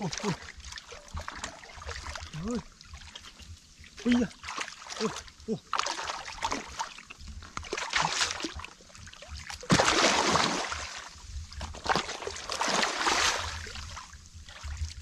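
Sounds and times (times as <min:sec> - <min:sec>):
muddy water splashing: 0:00.0 - 0:15.0.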